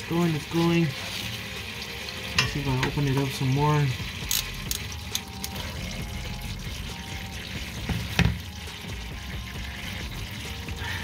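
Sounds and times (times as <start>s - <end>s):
fluid pouring and dripping: 0.0s - 11.0s.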